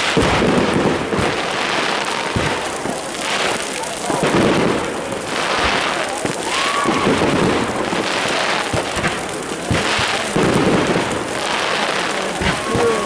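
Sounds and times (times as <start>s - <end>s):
crowd noise: 0.0s - 13.0s
fireworks and firecrackers banging: 0.0s - 13.0s.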